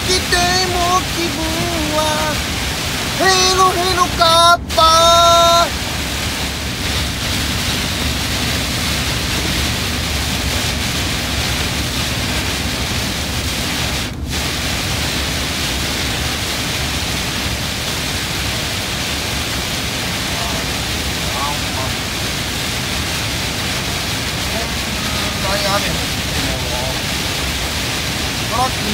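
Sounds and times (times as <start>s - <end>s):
truck engine drone: 0.0s - 28.9s.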